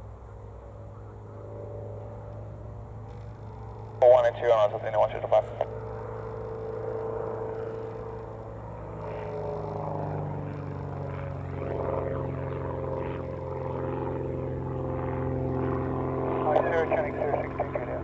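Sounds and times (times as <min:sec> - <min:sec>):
propeller aircraft engine droning: 0:00.0 - 0:18.0.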